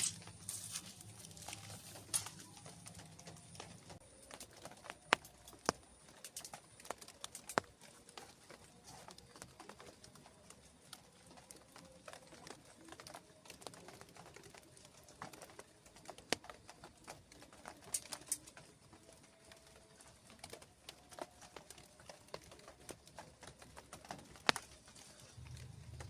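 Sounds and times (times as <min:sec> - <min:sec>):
raindrops and drips ticking: 0:00.0 - 0:26.0.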